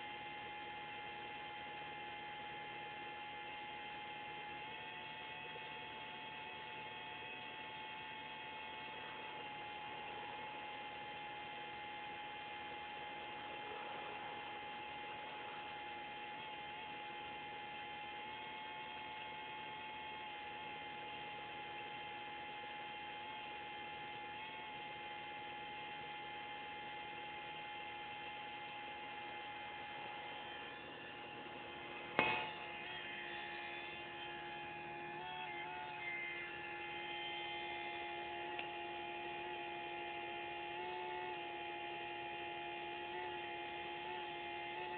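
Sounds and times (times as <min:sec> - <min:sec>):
fuel pump whining: 0:00.0 - 0:44.9.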